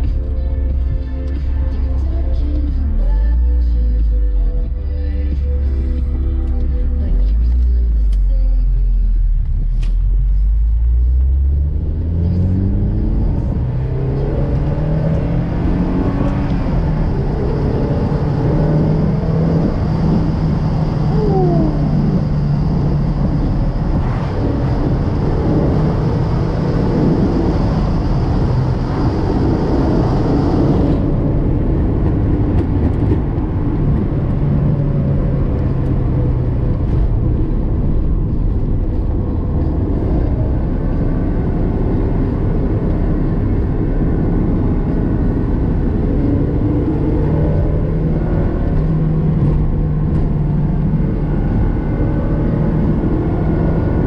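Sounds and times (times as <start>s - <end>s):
car engine revving and cruising: 0.0s - 54.0s
road and wind noise: 0.0s - 54.0s.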